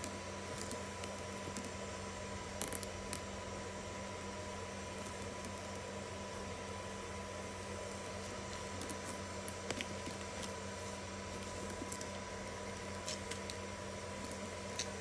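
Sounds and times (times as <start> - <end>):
electrical hum with high tone: 0.0 - 15.0.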